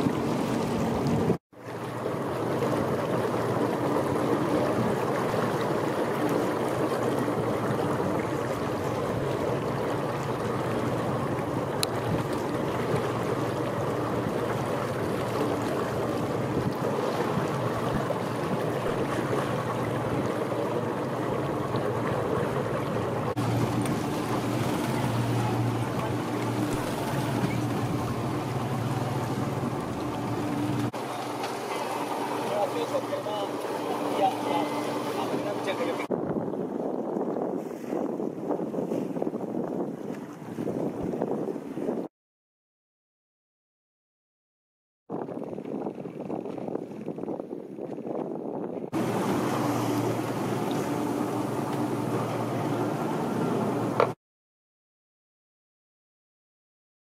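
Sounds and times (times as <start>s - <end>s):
choppy sea water: 0.0s - 42.1s, 45.1s - 54.2s
wind: 0.0s - 42.1s, 45.1s - 54.2s.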